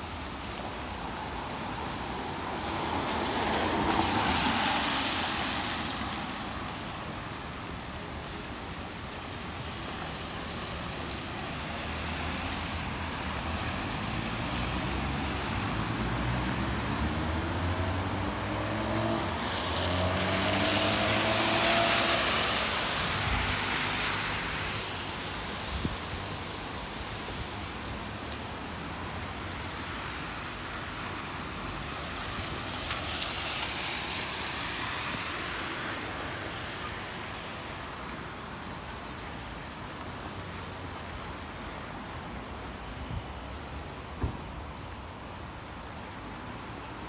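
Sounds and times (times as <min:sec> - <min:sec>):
car tyres hissing on wet road: 0:00.0 - 0:47.0.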